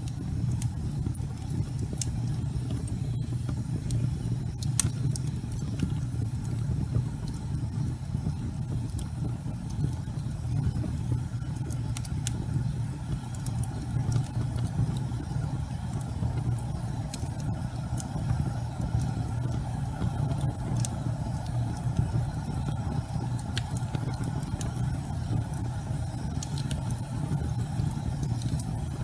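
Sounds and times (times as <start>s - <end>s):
low roar of flames: 0.0s - 29.0s
wood popping and crackling: 0.0s - 29.0s.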